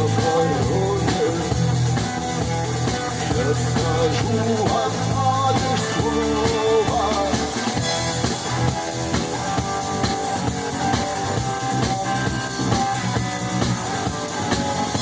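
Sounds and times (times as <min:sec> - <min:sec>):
bass guitar: 0:00.0 - 0:15.0
drums: 0:00.0 - 0:15.0
electric guitar melody: 0:00.0 - 0:15.0.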